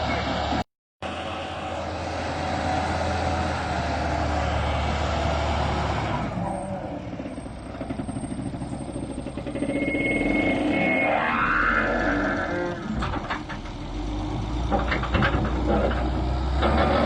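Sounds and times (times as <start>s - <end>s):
heavy engine running: 0.0s - 17.0s.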